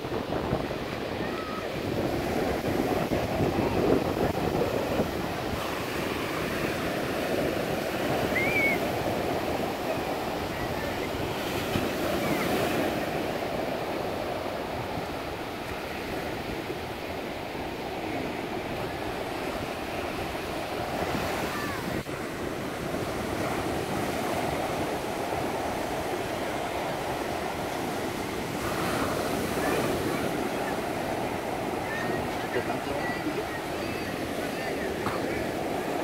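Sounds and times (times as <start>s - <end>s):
small waves breaking on beach: 0.0s - 36.0s.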